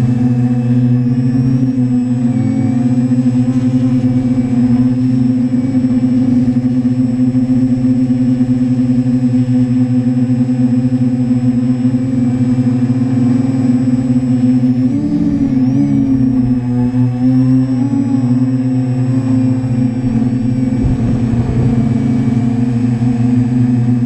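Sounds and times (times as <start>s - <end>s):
quadcopter propellers humming: 0.0s - 24.0s.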